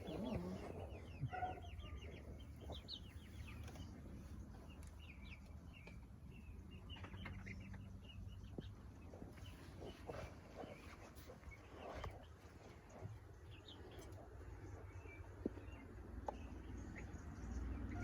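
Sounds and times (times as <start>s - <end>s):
chicks peeping and chirping: 0.0s - 18.0s.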